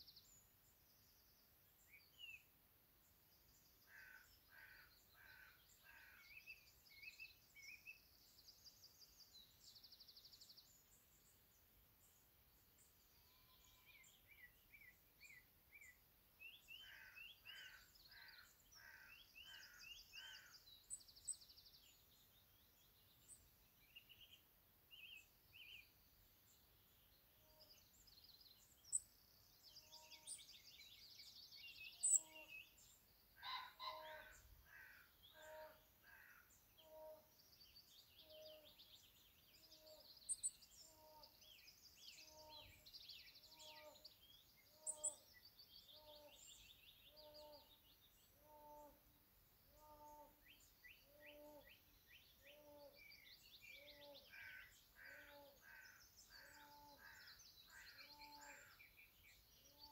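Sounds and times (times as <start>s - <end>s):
birds chirping and trilling: 3.3s - 59.9s.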